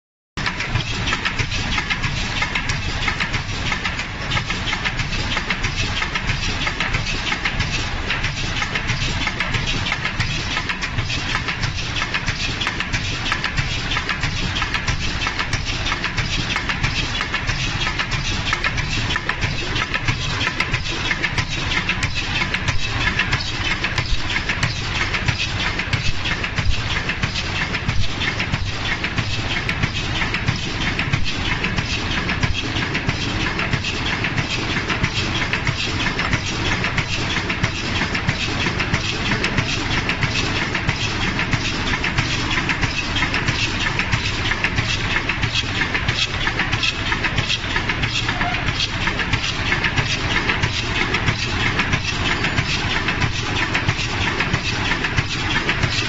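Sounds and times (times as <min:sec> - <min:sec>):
fast clatter of small clicks: 0:00.4 - 0:56.0.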